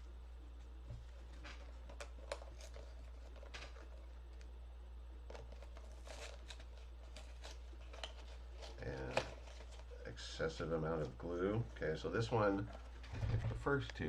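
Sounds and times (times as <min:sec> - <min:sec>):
steady low hum: 0:00.0 - 0:14.0
plastic packaging rustling: 0:01.0 - 0:04.5, 0:05.2 - 0:13.8.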